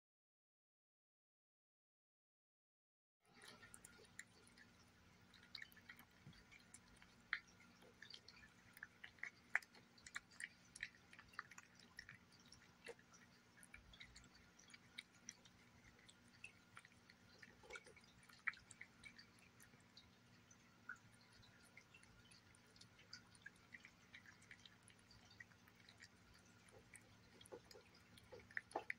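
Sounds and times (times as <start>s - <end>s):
cat eating wet food: 3.3s - 28.9s.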